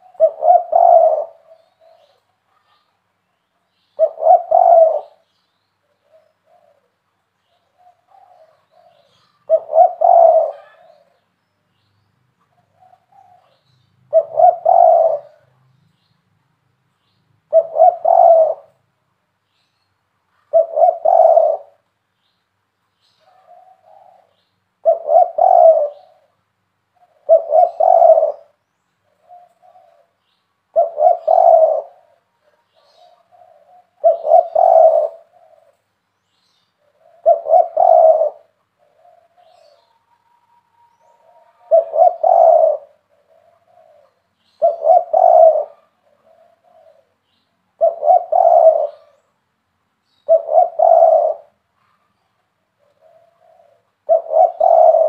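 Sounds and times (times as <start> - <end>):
dove cooing: 0.0 - 11.3, 12.4 - 15.8, 17.5 - 18.8, 20.3 - 21.9, 23.2 - 35.9, 36.8 - 49.4, 50.1 - 55.0.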